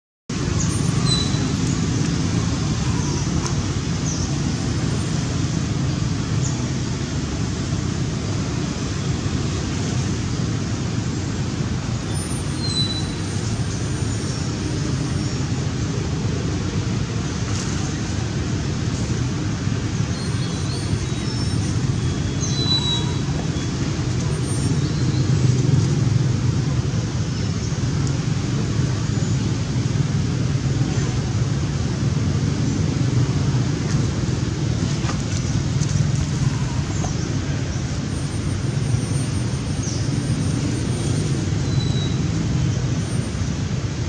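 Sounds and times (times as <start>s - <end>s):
distant road traffic rumble: 0.3s - 44.0s.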